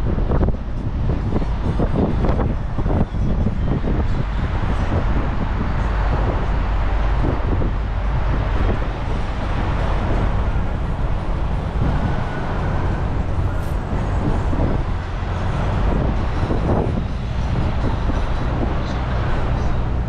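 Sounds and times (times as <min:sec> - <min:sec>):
city road traffic rumble: 0:00.0 - 0:20.0.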